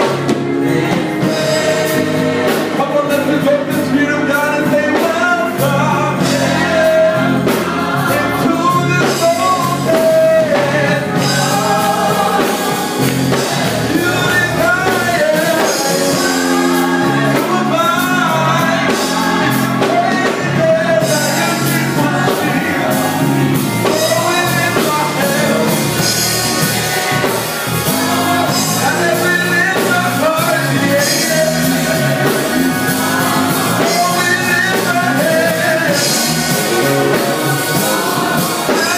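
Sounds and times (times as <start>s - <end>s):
gospel group singing: 0.0s - 38.9s
instrumental accompaniment with beat: 0.0s - 38.9s.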